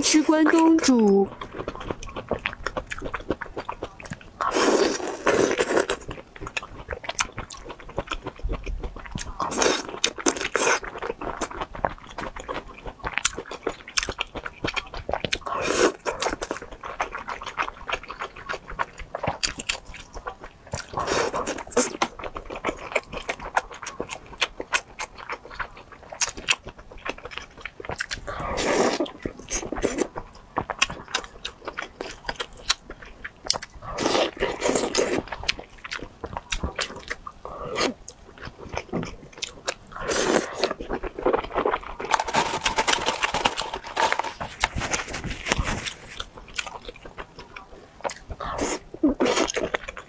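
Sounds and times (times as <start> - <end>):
chewing with wet mouth smacks: 0.0 - 50.0.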